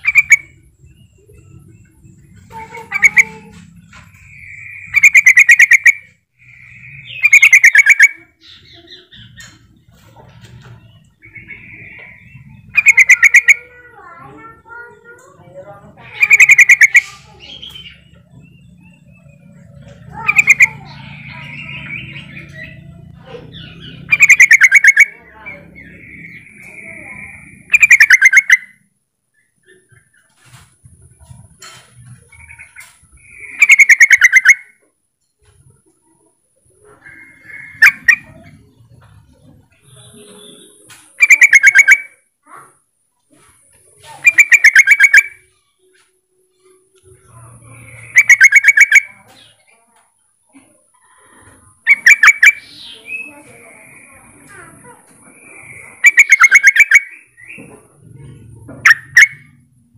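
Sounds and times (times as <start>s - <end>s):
bulbul chattering call: 0.0s - 9.8s, 10.8s - 14.8s, 15.9s - 28.8s, 31.4s - 34.8s, 36.8s - 42.6s, 43.7s - 45.6s, 46.9s - 49.7s, 50.6s - 59.9s
soft bird twittering: 0.0s - 34.8s, 35.4s - 42.6s, 43.3s - 49.9s, 50.5s - 59.9s.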